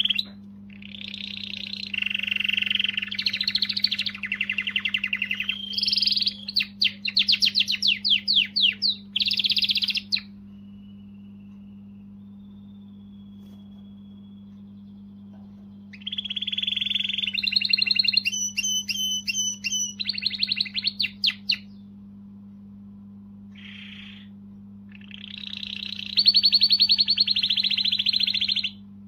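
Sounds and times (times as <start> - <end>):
canary singing trills: 0.0 - 22.0, 23.5 - 28.9
steady low hum: 0.0 - 29.0.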